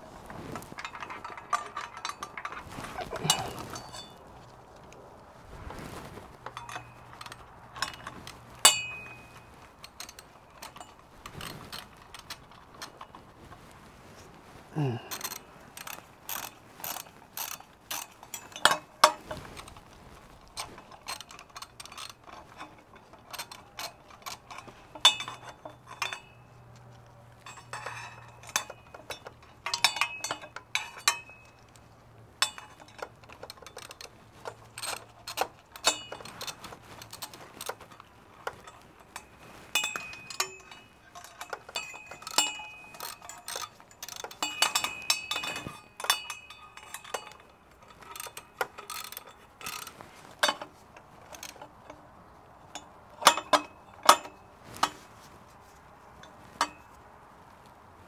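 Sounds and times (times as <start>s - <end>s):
metal tools clinking and knocking: 0.5s - 4.6s, 6.4s - 13.6s, 14.8s - 19.8s, 20.4s - 55.3s, 56.0s - 57.1s.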